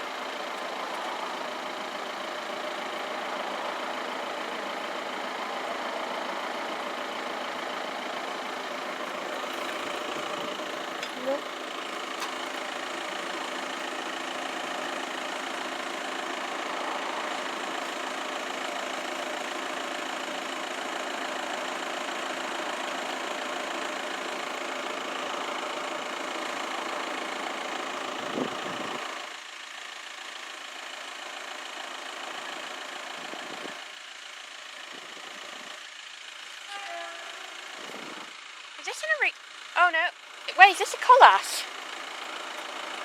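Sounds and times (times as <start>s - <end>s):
vehicle engine idling: 0.0s - 43.0s.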